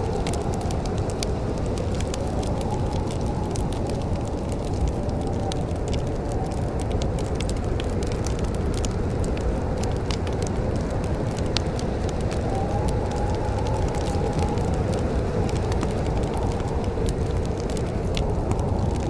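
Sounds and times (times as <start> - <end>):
low rumble of fire: 0.0 - 19.0
wood fire crackling: 0.0 - 19.0.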